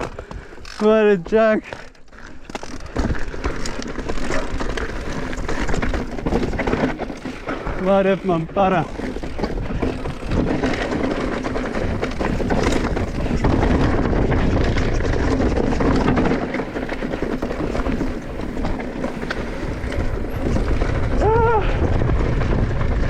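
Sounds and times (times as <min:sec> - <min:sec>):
bike knocks and rattles: 0:00.0 - 0:23.0
bike tyres rumbling over rock: 0:00.0 - 0:23.0
wind buffeting microphone: 0:02.9 - 0:23.0.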